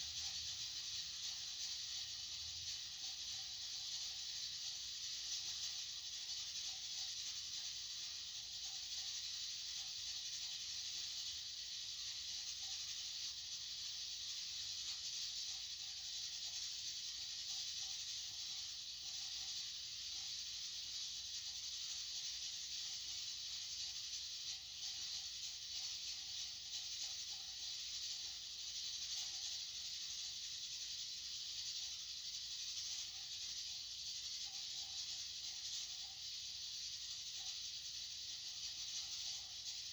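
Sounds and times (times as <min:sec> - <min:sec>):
high-pitched white noise hiss: 0:00.0 - 0:39.9.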